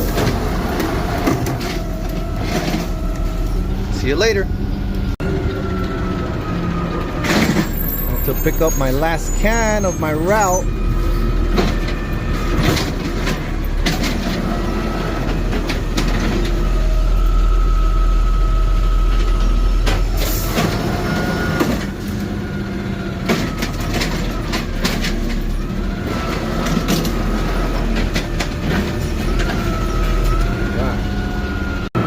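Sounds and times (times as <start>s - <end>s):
truck engine rumble: 0.0s - 32.0s.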